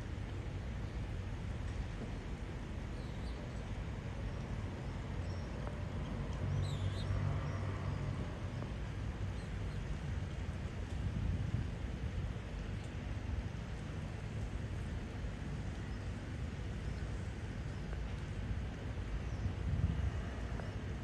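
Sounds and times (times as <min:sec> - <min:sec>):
low rumble and hiss: 0:00.0 - 0:21.0.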